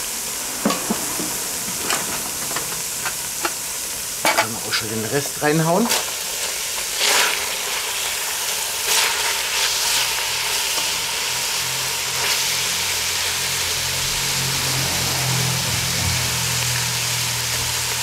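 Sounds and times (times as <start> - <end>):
beef sizzling in a pot: 0.0 - 18.0.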